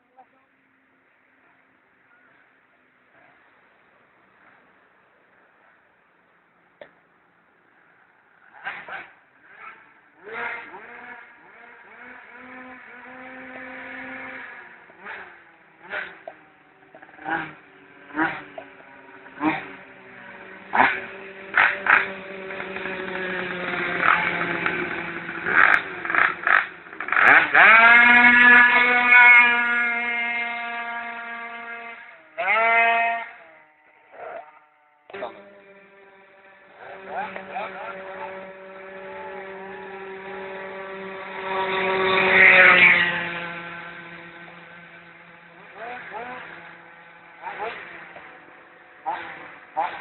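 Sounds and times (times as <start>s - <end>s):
car engine idling and revving: 5.6s - 50.0s.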